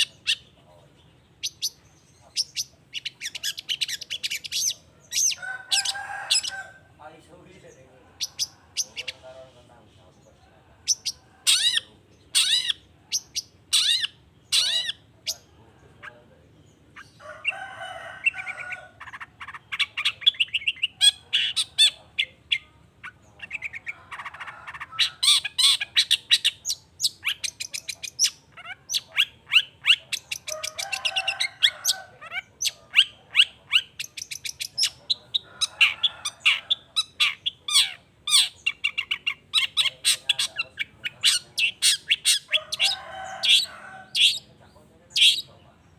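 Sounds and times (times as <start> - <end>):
shrike singing: 0.0 - 7.0, 7.6 - 45.9.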